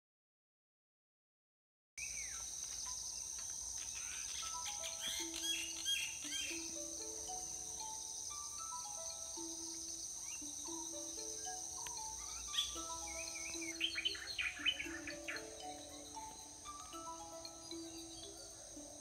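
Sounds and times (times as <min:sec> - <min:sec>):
birds chirping and calling: 0:02.0 - 0:19.0
high-pitched insect drone: 0:02.0 - 0:19.0
soft slow background music: 0:02.1 - 0:19.0.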